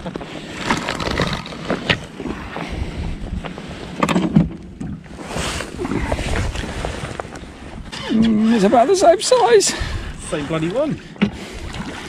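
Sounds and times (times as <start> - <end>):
water lapping at boat: 0.0 - 12.0
wind buffeting microphone: 1.9 - 12.0.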